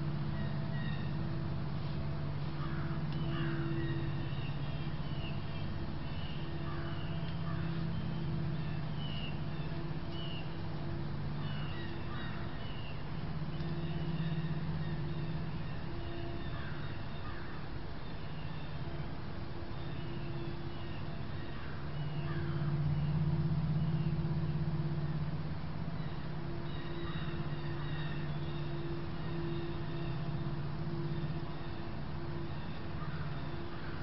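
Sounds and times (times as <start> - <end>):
birds chirping: 0.0 - 34.0
steady low drone: 0.0 - 34.0.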